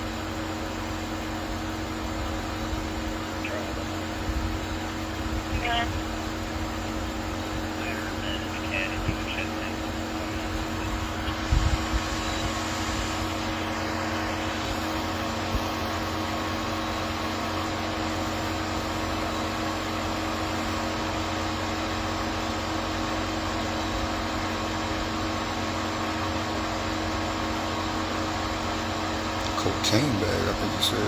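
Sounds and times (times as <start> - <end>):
mechanical hum with fan noise: 0.0 - 31.0.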